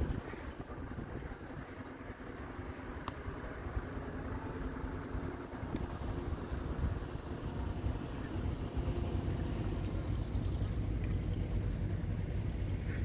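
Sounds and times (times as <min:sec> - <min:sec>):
wind buffeting microphone: 0:00.0 - 0:04.1, 0:04.8 - 0:12.9.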